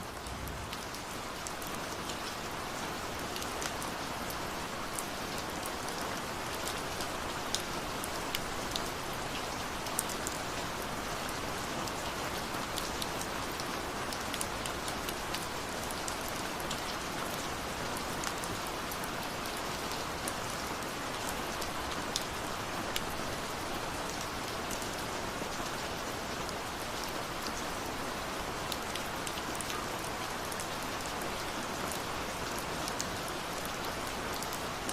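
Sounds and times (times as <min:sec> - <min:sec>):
raindrops ticking on a surface: 0:00.0 - 0:34.9
steady rain hiss: 0:00.0 - 0:34.9.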